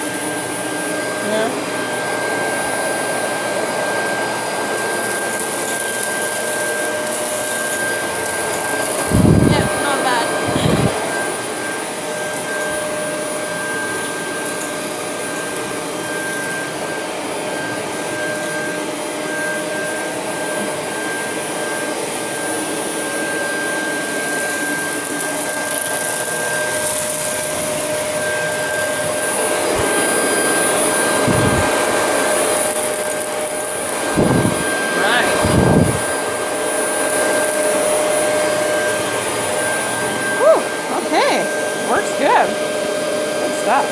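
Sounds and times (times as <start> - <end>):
vacuum cleaner whining: 0.0 - 43.9.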